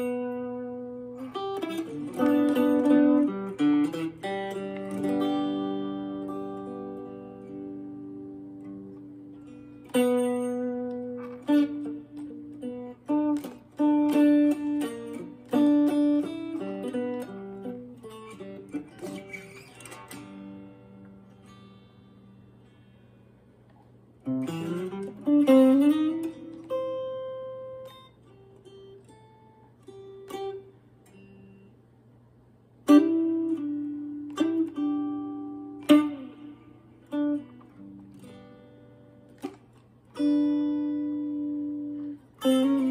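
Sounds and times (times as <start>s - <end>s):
acoustic blues guitar: 0.0s - 31.7s, 32.8s - 42.9s.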